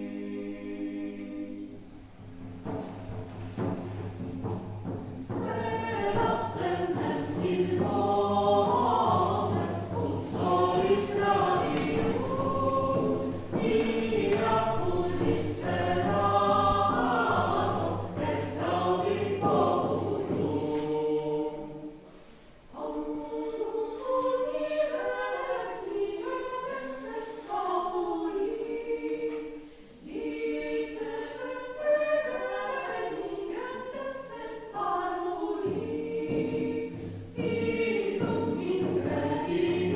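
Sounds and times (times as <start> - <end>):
choir singing sacred music: 0.0 - 39.9.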